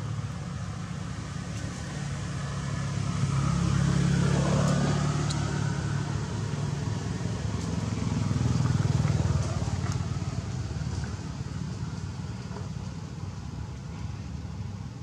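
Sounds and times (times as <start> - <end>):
vehicle engine passing by: 0.0 - 14.8.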